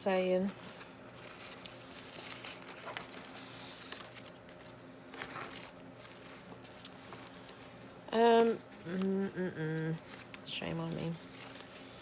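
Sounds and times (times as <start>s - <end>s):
paper rustling: 0.4s - 9.2s, 9.8s - 12.0s.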